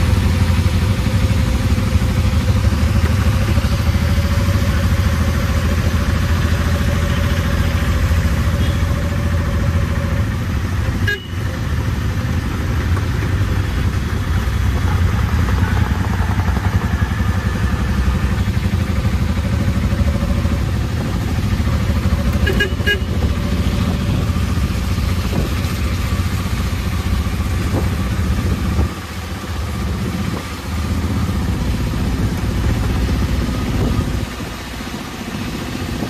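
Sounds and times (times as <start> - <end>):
tyres on wet road: 0.0 - 36.0.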